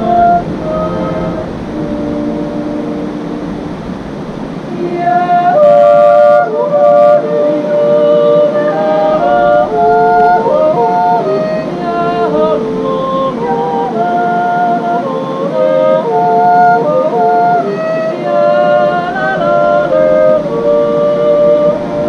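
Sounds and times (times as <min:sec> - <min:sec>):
accordion: 0:00.0 - 0:22.0
women singing in harmony: 0:00.0 - 0:22.0.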